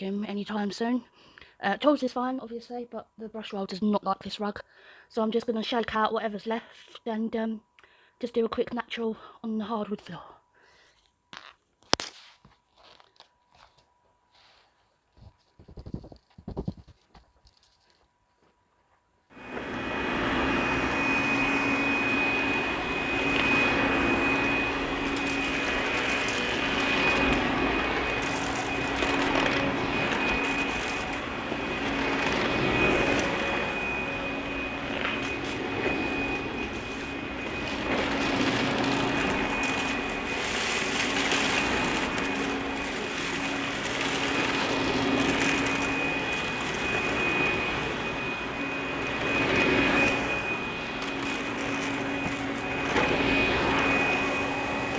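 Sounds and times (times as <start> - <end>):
vacuum cleaner whining: 10.7 - 54.9.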